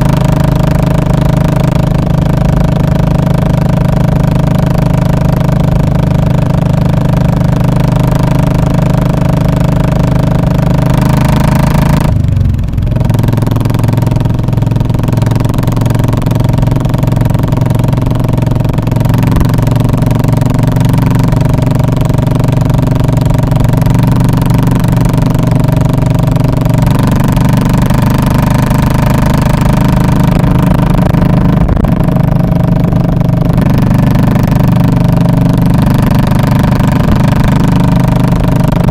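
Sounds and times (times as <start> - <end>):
motorcycle engine deep exhaust: 0.0 - 38.9.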